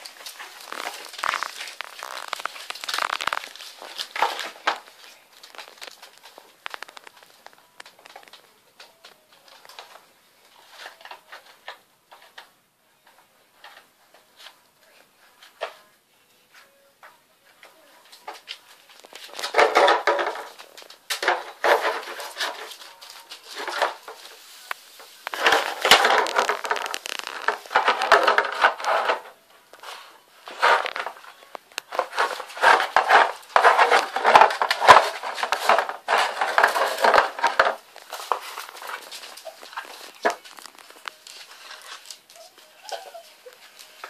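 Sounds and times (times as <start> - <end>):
puppies scuffling on tiled floor: 0.0 - 12.4, 17.8 - 44.0.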